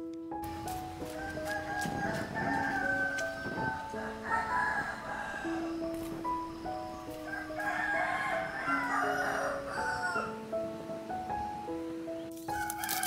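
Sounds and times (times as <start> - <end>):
slow melodic background music: 0.0 - 13.0.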